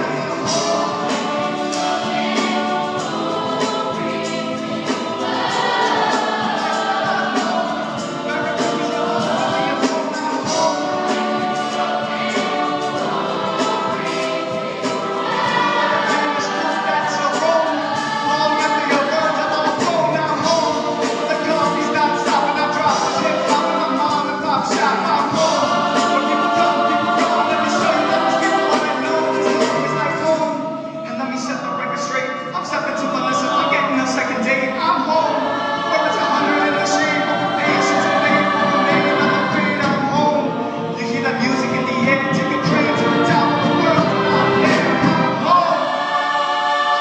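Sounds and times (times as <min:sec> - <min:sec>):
ensemble singing with band: 0:00.0 - 0:47.0.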